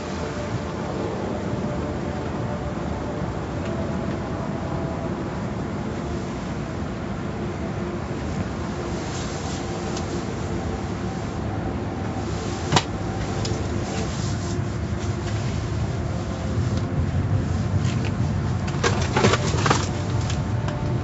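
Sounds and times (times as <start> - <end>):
car wash machinery humming: 0.0 - 21.0.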